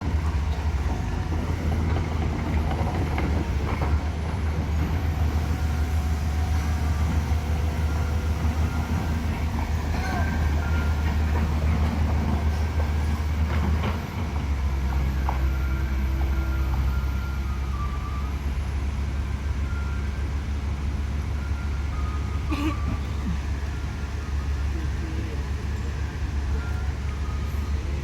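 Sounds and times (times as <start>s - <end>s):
heavy vehicle engine droning: 0.0s - 28.0s
traffic noise: 0.0s - 28.0s.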